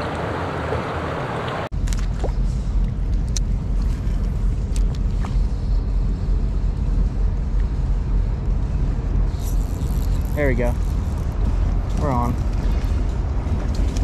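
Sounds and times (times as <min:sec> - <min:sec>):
wind buffeting microphone: 0:02.2 - 0:14.0.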